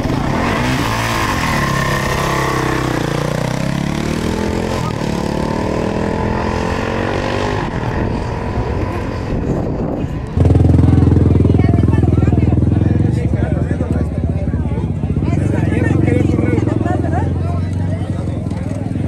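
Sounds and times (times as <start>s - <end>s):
dirt bike accelerating: 0.0s - 19.0s.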